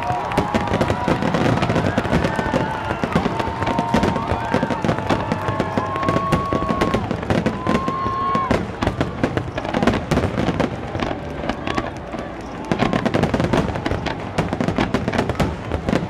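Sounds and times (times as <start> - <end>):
fireworks barrage: 0.0 - 16.0.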